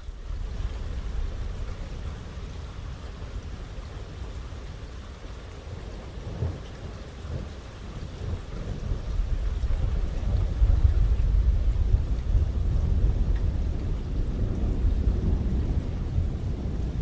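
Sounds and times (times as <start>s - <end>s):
rolling thunder: 0.0s - 5.0s, 5.6s - 17.0s
heavy rain pouring: 0.0s - 17.0s.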